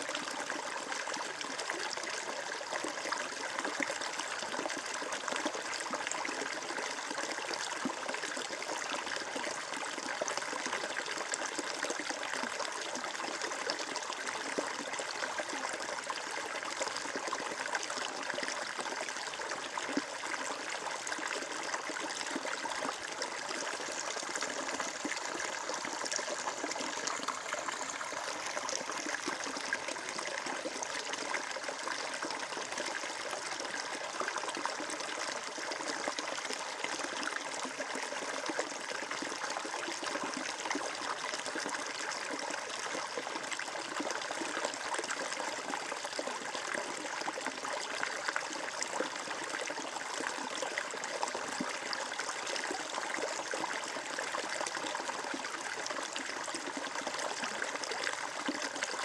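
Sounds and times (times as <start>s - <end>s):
water flowing and trickling: 0.0s - 59.0s.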